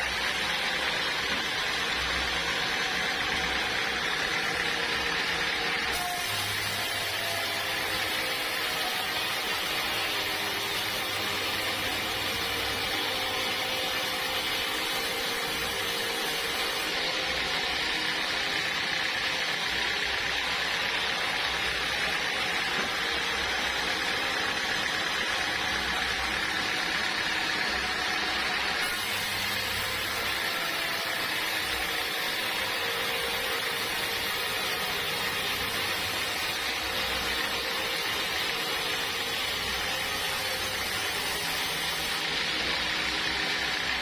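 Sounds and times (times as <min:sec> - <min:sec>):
band saw running: 0:00.0 - 0:44.0.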